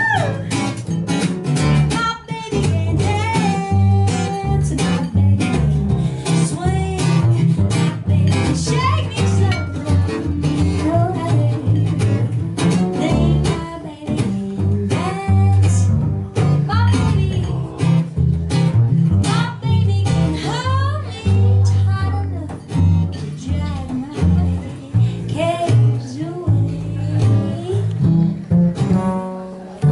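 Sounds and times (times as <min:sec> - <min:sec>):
acoustic guitar strumming: 0:00.0 - 0:29.9
plucked double bass: 0:00.0 - 0:29.9
woman singing: 0:01.8 - 0:18.1, 0:19.2 - 0:28.1.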